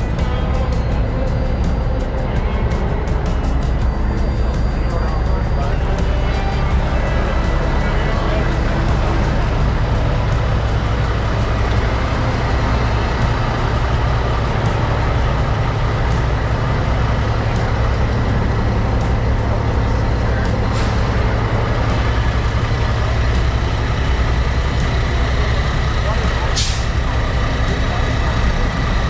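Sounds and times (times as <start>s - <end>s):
diesel truck engine rumbling: 0.0s - 29.0s.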